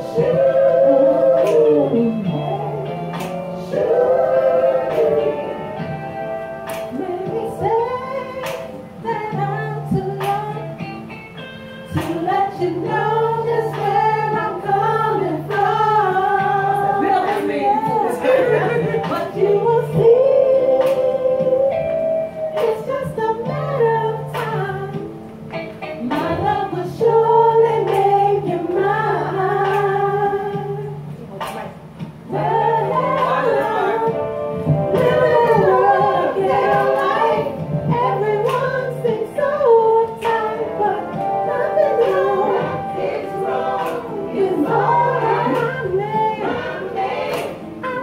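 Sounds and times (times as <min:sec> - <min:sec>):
women singing into microphones: 0:00.0 - 0:10.9, 0:11.9 - 0:48.0
karaoke music with bass line: 0:00.0 - 0:48.0.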